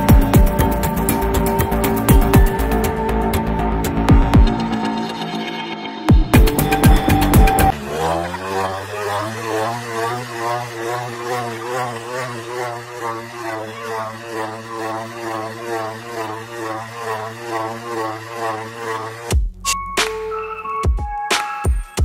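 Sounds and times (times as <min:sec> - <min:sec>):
motorcycle engine circling: 0:00.0 - 0:19.4.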